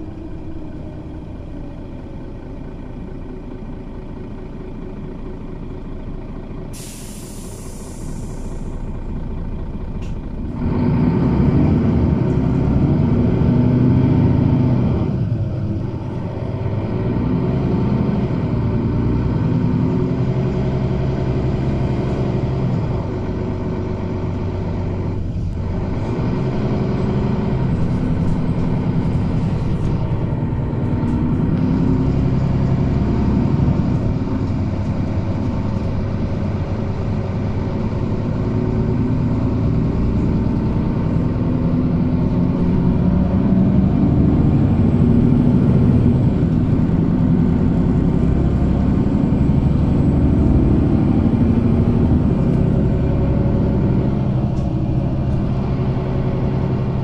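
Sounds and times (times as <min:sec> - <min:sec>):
bus engine running: 0:00.0 - 0:57.0
road noise rumble: 0:00.0 - 0:57.0.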